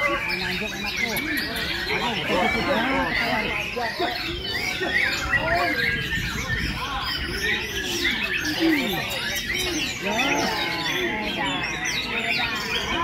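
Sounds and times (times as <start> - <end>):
songbirds singing in chorus: 0.0 - 13.0.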